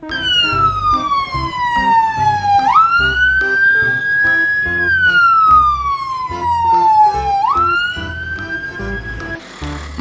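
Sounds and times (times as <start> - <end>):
police siren wailing: 0.1 - 9.4.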